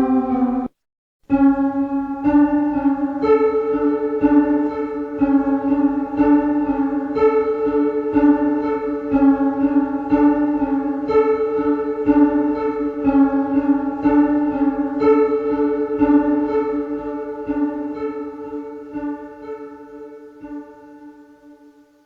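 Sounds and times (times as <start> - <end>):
synthesizer sustained notes: 0.0 - 0.7, 1.3 - 21.7.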